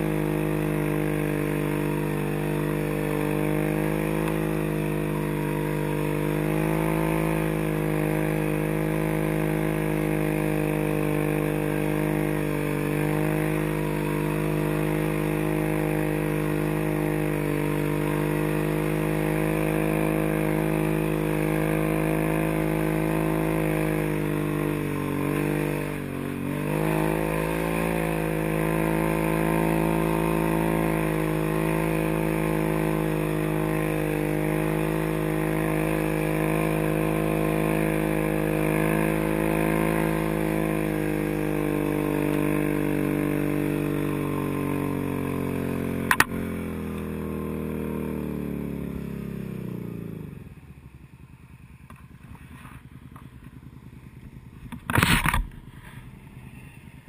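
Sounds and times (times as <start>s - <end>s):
tracked vehicle engine under load: 0.0s - 57.0s.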